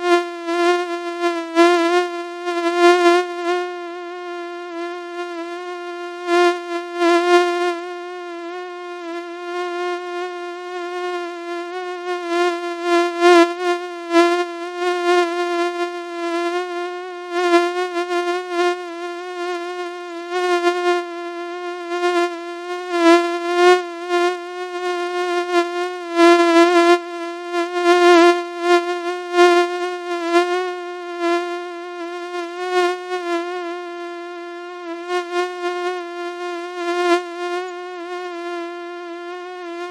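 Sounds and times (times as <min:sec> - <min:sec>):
mosquito buzzing whine: 0:00.0 - 0:39.9.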